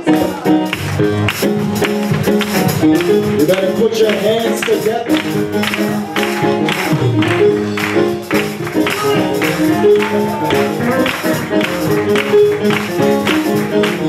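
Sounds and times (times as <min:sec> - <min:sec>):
gospel band playing: 0:00.0 - 0:14.0
percussive beat: 0:00.0 - 0:14.0
choir clapping: 0:00.7 - 0:14.0.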